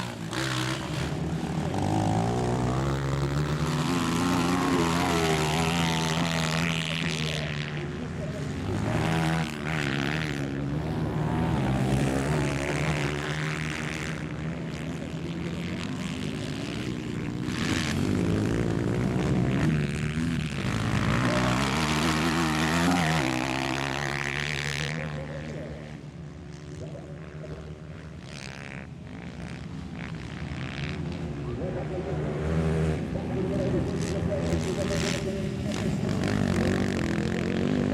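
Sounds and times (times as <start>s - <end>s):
motorcycle engines revving: 0.0s - 37.9s.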